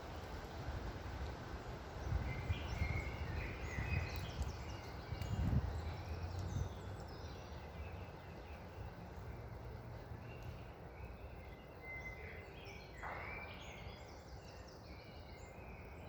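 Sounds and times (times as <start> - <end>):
low wind rumble: 0.0 - 16.0
small birds chirping: 1.2 - 16.0.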